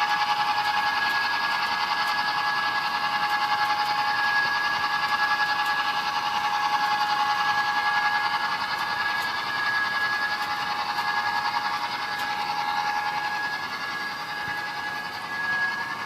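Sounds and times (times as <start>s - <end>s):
model train diesel engine sound: 0.0s - 16.0s
thin high humming tone: 0.0s - 16.0s.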